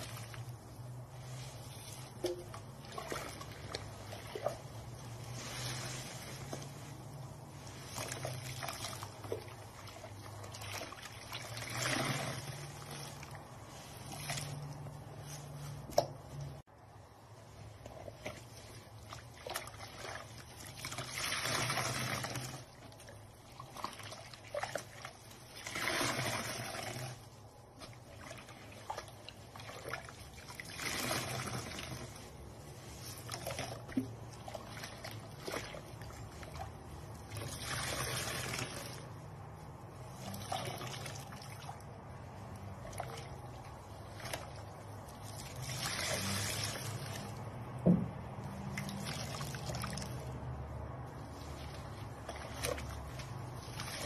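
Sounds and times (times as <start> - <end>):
water splashing into basin: 0.0 - 16.6, 17.8 - 54.0
sponges squeezed in soapy water: 0.0 - 54.0.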